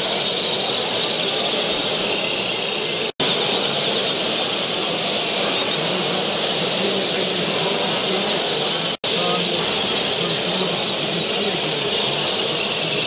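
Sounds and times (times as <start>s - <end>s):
canaries singing and chirping: 0.0s - 13.0s
hall hubbub: 0.0s - 13.0s.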